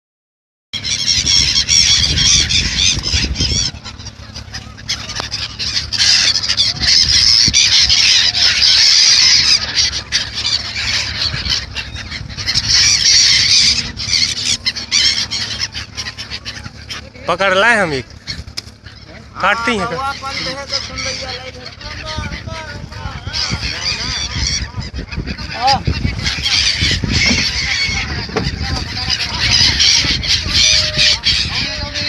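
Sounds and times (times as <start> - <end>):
gulls squawking: 0.8 - 32.0
low rumble: 0.8 - 32.0.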